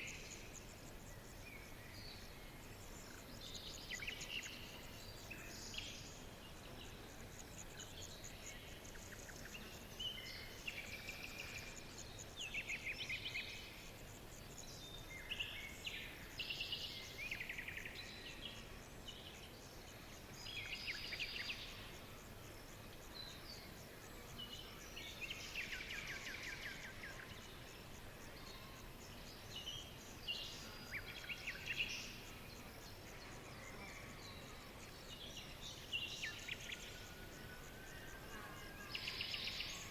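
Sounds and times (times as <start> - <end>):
faint hiss: 0.0 - 39.9
songbirds chirping and trilling: 0.0 - 39.9.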